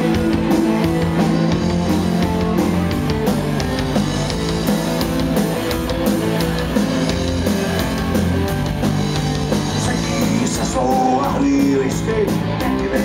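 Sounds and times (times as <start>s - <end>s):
drum kit beat: 0.0s - 13.0s
electric guitar: 0.0s - 13.0s.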